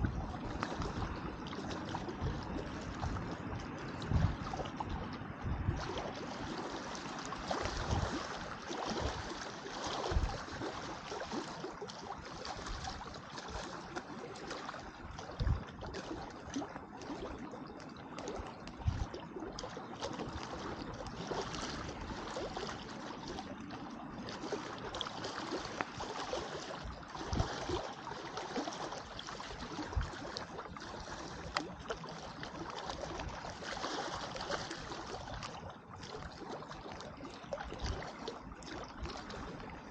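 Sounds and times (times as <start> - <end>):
lake water lapping: 0.0 - 39.9.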